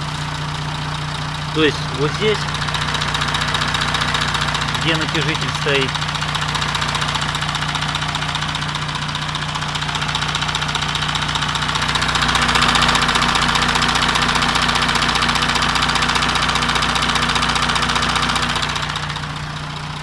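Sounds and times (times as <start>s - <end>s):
diesel engine idling: 0.0s - 20.0s
fast ticking engine clatter: 0.0s - 20.0s.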